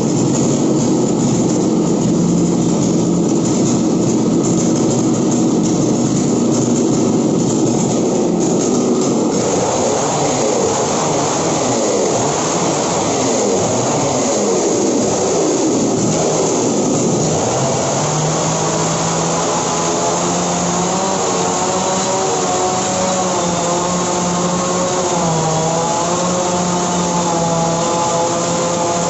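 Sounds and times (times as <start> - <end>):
chainsaw revving: 0.0 - 29.0
chainsaw cutting brick wall: 2.4 - 29.0.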